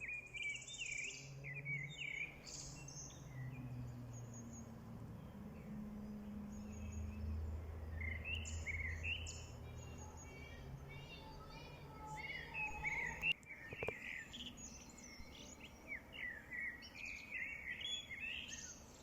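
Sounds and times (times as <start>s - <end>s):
low steady hum: 0.0s - 19.0s
songbirds chirping: 0.0s - 19.0s.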